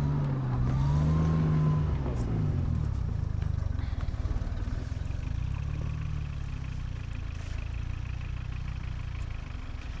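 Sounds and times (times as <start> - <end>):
vehicle engine running at low revs: 0.0 - 10.0.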